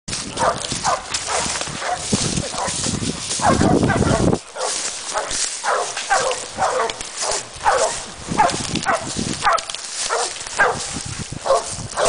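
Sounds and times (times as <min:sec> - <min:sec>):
dogs barking: 0:00.3 - 0:12.0.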